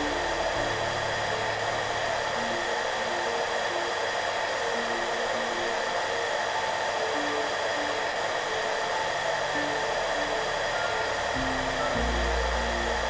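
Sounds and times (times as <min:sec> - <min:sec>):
hairdryer running: 0:00.0 - 0:13.0
soft background music: 0:00.0 - 0:13.0.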